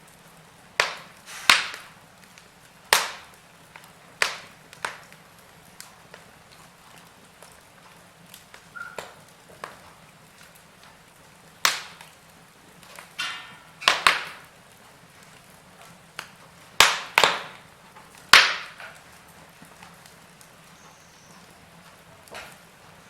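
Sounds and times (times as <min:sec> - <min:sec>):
wood fire crackling: 0:00.0 - 0:23.0
logs popping: 0:00.1 - 0:23.0.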